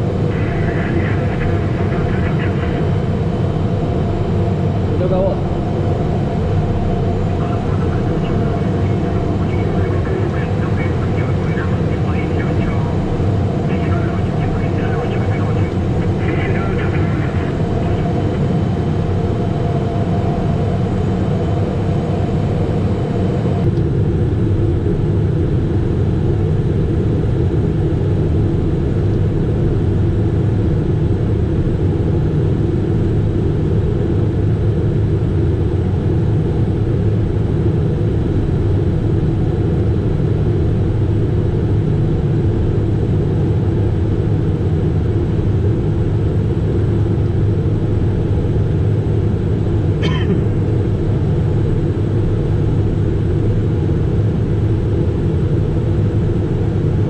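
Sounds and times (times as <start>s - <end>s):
jet cockpit rumble: 0.0s - 57.0s.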